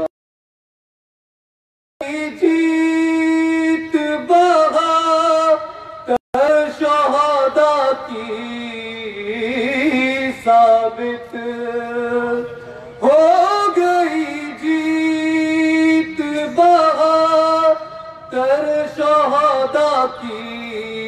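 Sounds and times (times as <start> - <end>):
man chanting into a microphone: 2.0 - 21.0.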